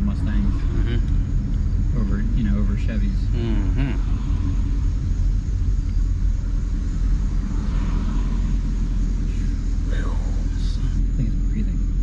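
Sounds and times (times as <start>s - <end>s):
car exhaust rumble inside cabin: 0.0s - 12.0s.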